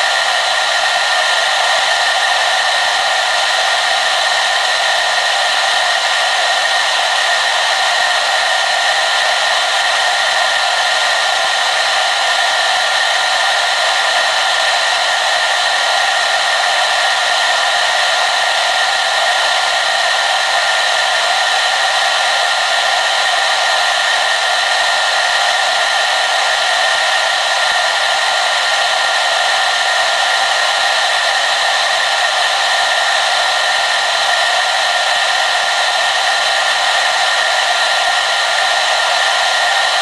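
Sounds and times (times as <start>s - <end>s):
hair dryer blowing: 0.0s - 40.0s.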